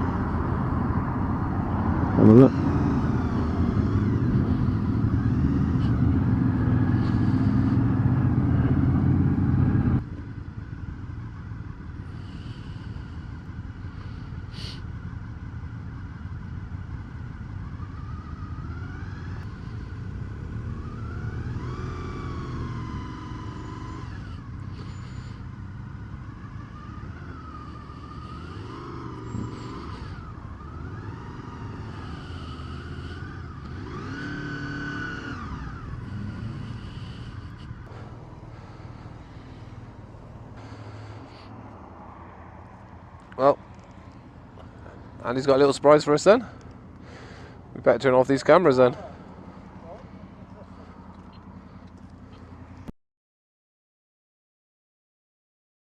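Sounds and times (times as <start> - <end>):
motorcycle engine: 0.0 - 52.9
road noise: 0.0 - 52.9.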